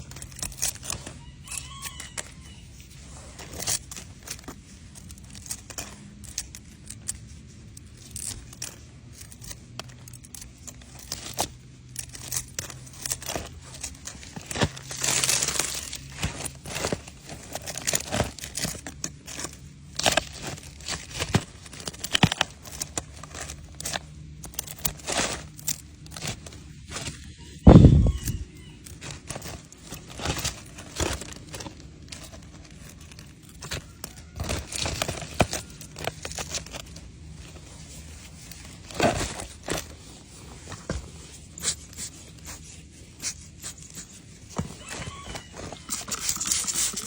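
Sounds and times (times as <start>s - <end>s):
leaves crinkling and tearing: 0.0s - 47.0s
leaves rustling: 0.0s - 47.0s.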